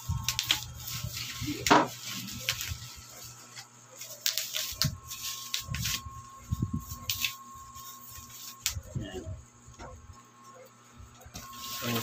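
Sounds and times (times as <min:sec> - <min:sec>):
bubble wrap rustling and crackling: 0:00.0 - 0:09.1, 0:11.3 - 0:12.0.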